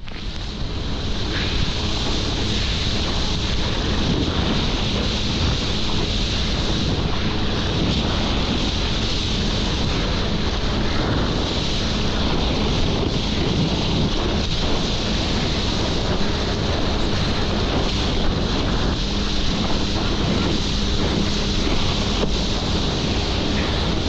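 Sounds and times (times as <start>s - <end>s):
jet ski engine running: 0.0s - 24.0s
rushing water: 0.0s - 24.0s
wind buffeting microphone: 0.0s - 24.0s.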